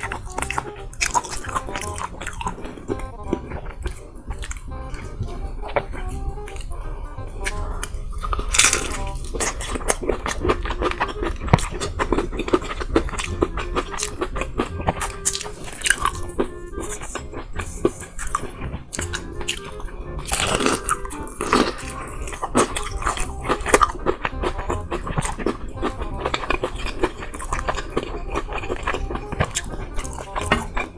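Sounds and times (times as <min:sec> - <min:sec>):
background music: 0:00.0 - 0:30.9
crunching and chewing fried chicken: 0:00.0 - 0:30.9.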